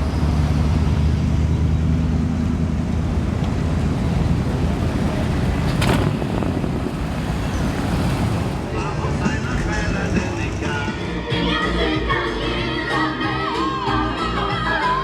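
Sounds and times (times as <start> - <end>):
car engine rumbling: 0.0 - 12.8.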